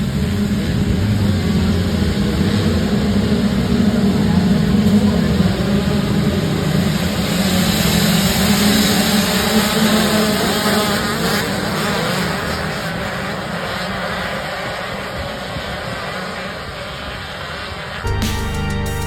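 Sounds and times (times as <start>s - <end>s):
dirt bike engines buzzing: 0.0s - 18.8s.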